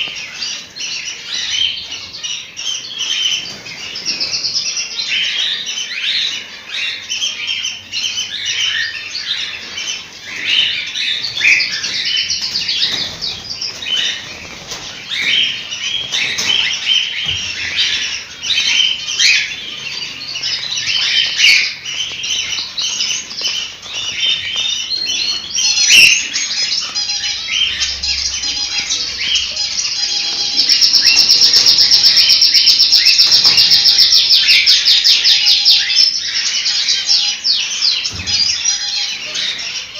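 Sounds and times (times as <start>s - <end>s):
cockatiels chirping: 0.0s - 39.9s.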